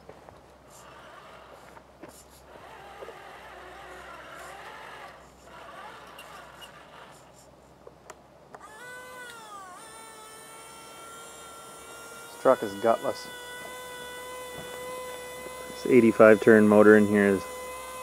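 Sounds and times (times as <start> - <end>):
electric motor whining: 0.0 - 7.5, 8.6 - 18.0.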